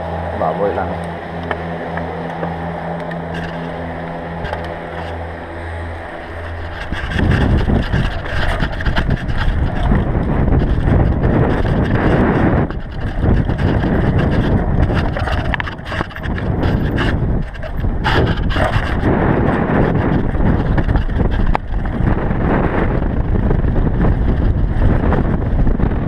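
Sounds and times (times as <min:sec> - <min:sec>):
tyres rumbling over dirt: 0:00.0 - 0:26.0
wind buffeting microphone: 0:00.0 - 0:26.0
bike clacks and rattles: 0:01.0 - 0:26.0.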